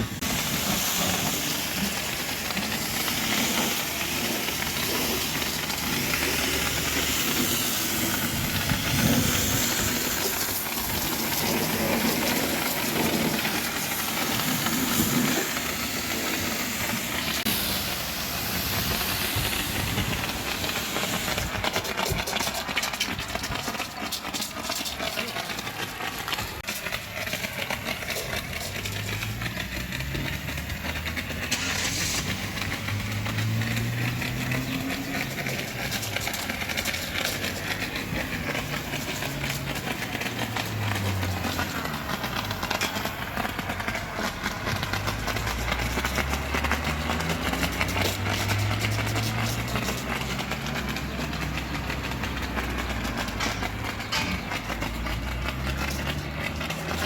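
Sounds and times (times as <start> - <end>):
hiss of spraying water: 0.0 - 57.0.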